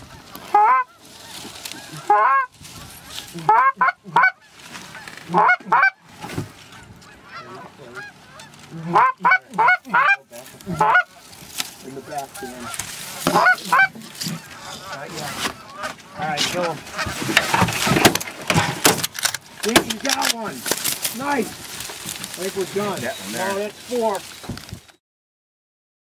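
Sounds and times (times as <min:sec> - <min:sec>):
geese honking and clucking: 0:00.0 - 0:25.0.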